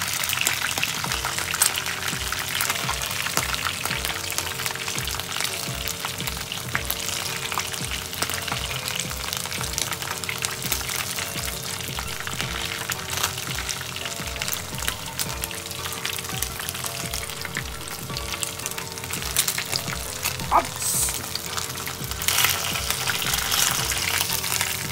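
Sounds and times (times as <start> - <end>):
background music with a beat: 0.0 - 24.9
chicken sizzling in oil: 0.0 - 24.9.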